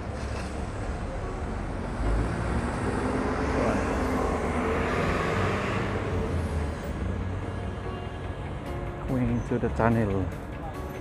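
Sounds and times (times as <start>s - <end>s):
passing vehicle: 0.0s - 11.0s
traffic rumble: 0.0s - 11.0s.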